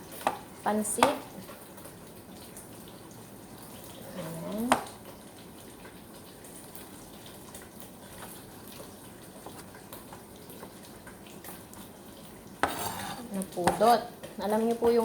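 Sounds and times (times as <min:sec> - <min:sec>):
water running: 0:00.0 - 0:15.0.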